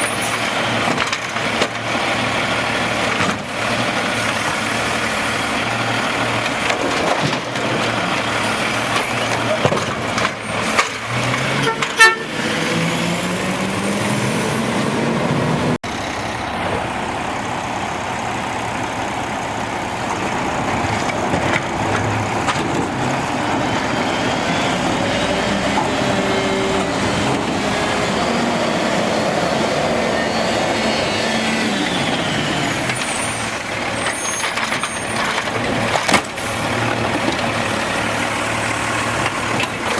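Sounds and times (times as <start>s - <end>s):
garbage truck engine running: 0.0s - 39.9s.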